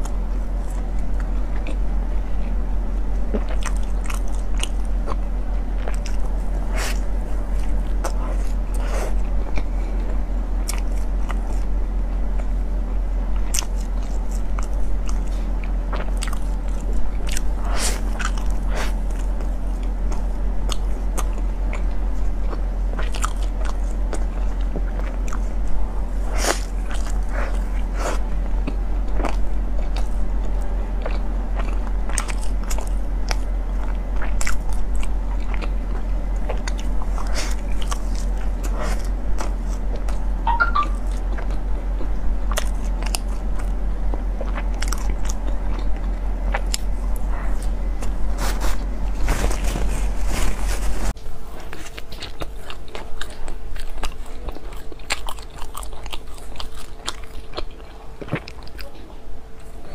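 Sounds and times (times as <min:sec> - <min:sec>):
biting and chewing: 0:00.0 - 0:12.6, 0:13.2 - 0:59.9
steady low hum: 0:00.0 - 0:59.9.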